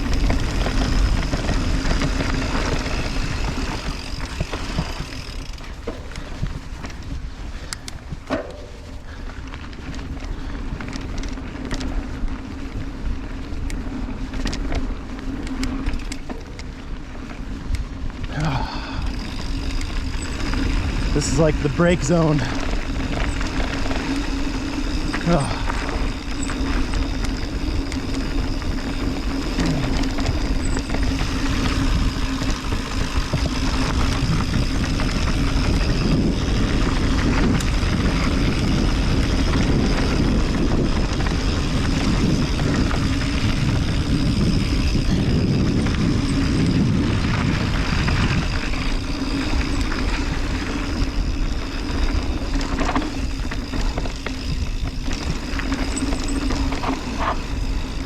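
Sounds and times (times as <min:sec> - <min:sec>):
bike rattling: 0:00.0 - 0:58.0
bike tyre noise on dirt: 0:00.0 - 0:58.0.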